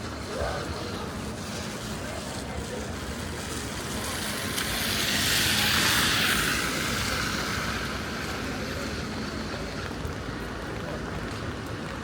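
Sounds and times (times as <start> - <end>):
rainy city background noise: 0.0 - 12.0
tyres hissing on wet street: 0.0 - 12.0.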